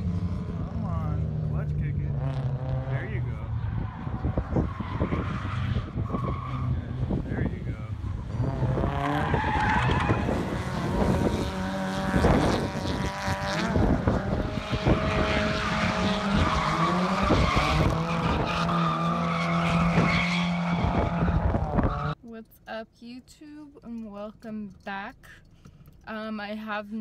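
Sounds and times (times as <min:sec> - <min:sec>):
car engine revving hard: 0:00.0 - 0:22.2
tyres skidding on asphalt: 0:00.0 - 0:22.2.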